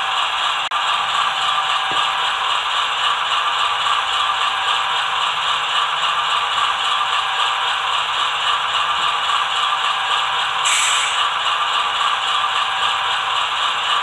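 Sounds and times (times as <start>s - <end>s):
diesel engine idling through speaker: 0.0s - 14.0s.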